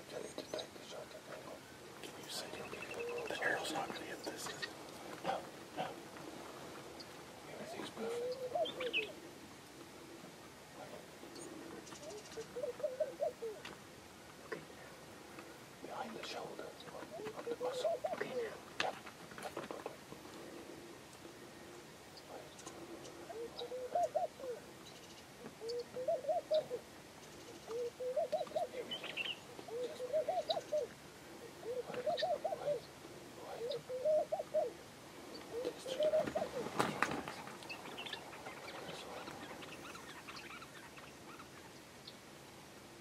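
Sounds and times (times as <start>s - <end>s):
dove cooing: 0.0s - 13.7s, 14.5s - 24.8s, 25.4s - 40.6s
small birds chirping: 0.0s - 42.3s.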